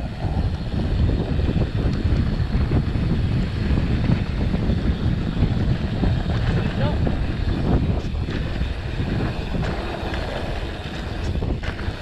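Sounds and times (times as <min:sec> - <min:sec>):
bike tyres rolling over dirt: 0:00.0 - 0:12.0
wind buffeting microphone: 0:00.0 - 0:12.0.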